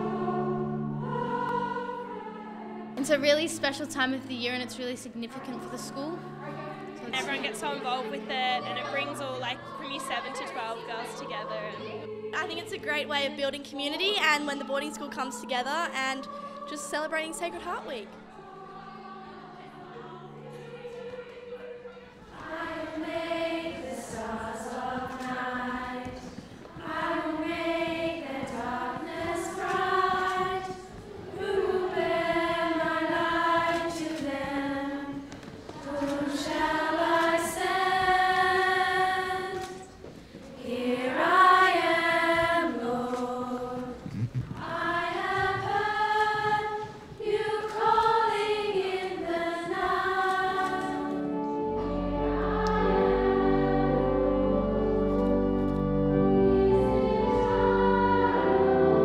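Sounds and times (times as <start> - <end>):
girls' choir singing: 0.0 - 59.0.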